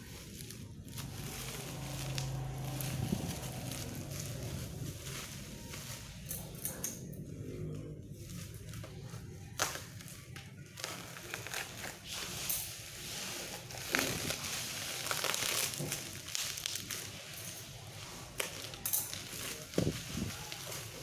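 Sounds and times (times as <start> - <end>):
plastic packaging crinkling: 0.0 - 6.9, 8.1 - 21.0.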